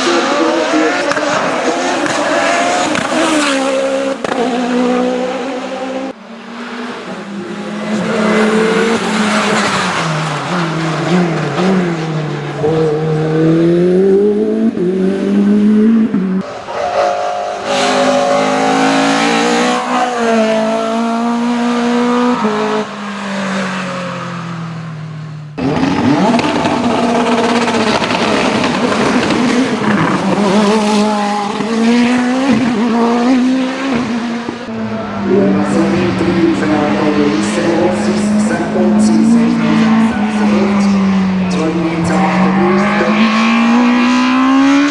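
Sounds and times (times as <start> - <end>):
racing car engines revving: 0.0 - 44.9.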